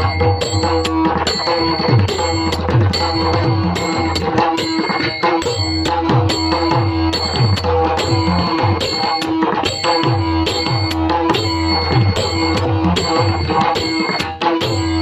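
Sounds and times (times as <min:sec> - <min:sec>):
hand drum strokes: 0:00.0 - 0:15.0.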